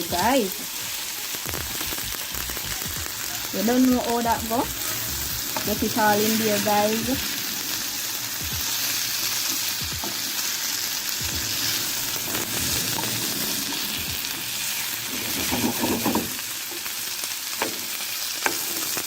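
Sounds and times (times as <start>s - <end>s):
vegetables sizzling in a pot: 0.0s - 19.0s.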